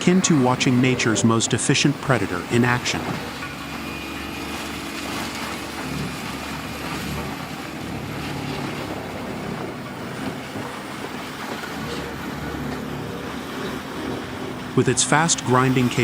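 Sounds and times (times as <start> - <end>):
dense mechanical noise: 0.0 - 16.0
diesel engine drone: 0.0 - 16.0.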